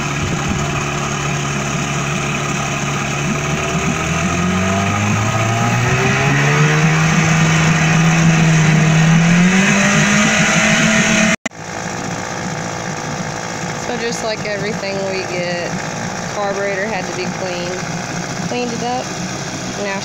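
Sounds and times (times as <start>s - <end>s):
outboard motor revving in water: 0.0s - 20.0s.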